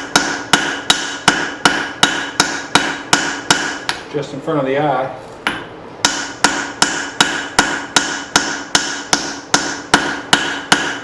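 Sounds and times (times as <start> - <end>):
hammer striking hot steel on anvil: 0.0 - 4.0, 5.4 - 11.0.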